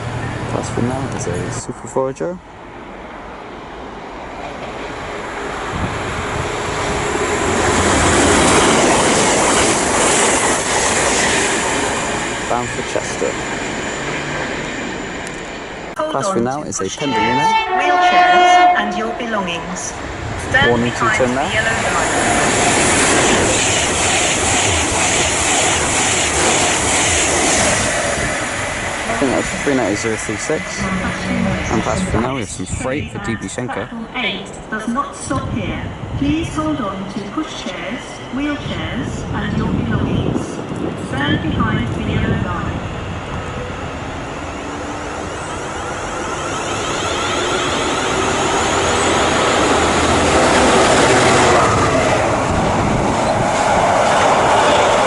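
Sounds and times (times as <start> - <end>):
diesel train rumble and rail noise: 0.0 - 55.0.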